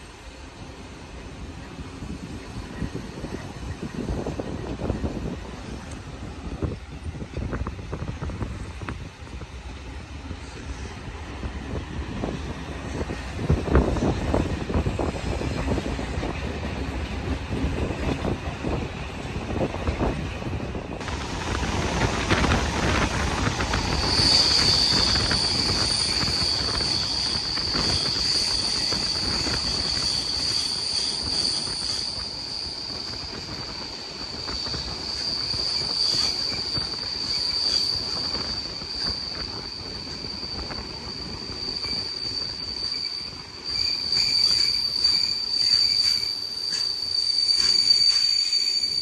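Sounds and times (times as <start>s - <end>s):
train wheels rumbling on track: 0.0s - 49.0s
train wheels squealing: 0.0s - 49.0s.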